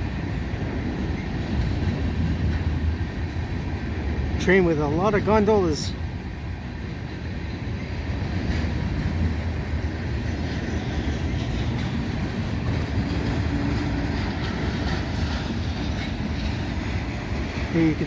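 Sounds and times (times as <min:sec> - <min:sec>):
highway traffic hum: 0:00.0 - 0:18.0
train wheels on rail: 0:00.0 - 0:18.0.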